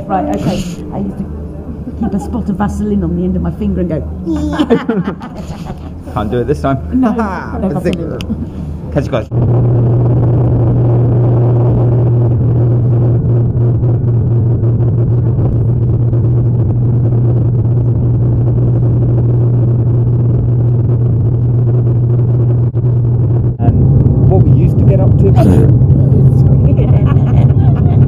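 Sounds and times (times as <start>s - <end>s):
airliner engine drone in cabin: 0.0s - 28.0s.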